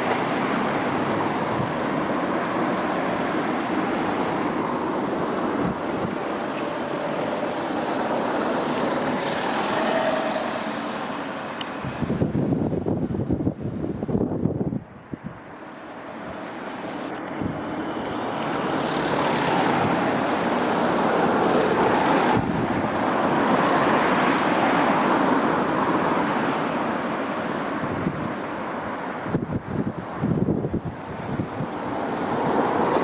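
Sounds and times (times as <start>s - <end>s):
electric train passing: 0.0s - 12.3s, 14.8s - 27.1s, 30.8s - 33.0s.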